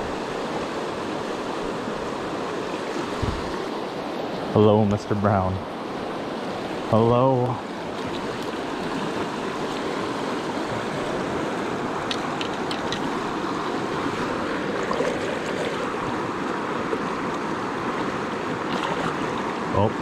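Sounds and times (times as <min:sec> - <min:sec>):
river current rushing: 0:00.0 - 0:20.0.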